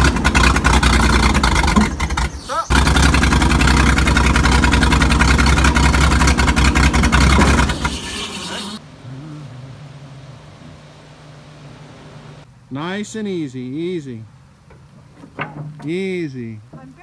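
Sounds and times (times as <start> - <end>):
hydraulics working: 0.0 - 12.5, 14.3 - 17.0
engine heavy low rumble: 0.0 - 17.0.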